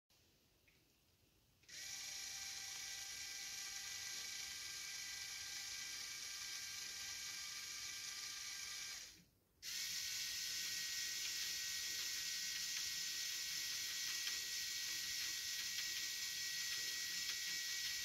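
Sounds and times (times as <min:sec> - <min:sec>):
toy motor whirring with gear whine: 0:01.7 - 0:18.0.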